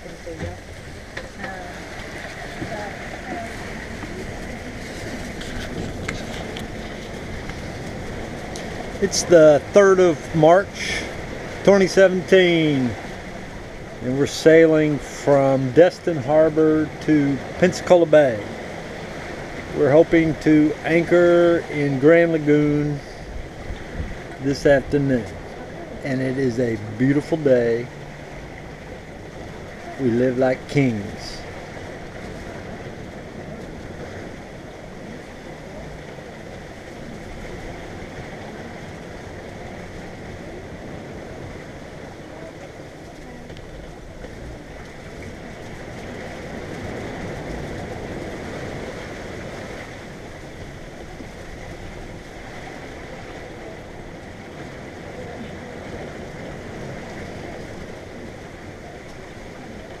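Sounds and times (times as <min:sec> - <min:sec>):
water rushing along hull: 0:00.0 - 1:00.0
wind: 0:00.0 - 1:00.0.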